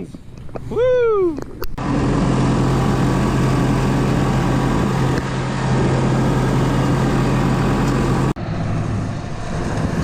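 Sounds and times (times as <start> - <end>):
tractor engine running: 1.6 - 10.0.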